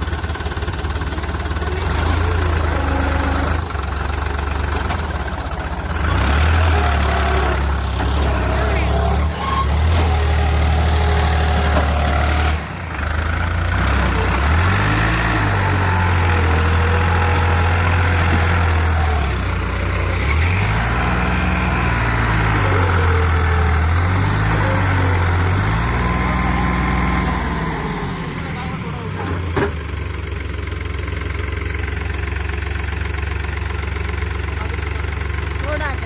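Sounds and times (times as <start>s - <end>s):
tractor diesel engine revving: 0.0s - 36.0s.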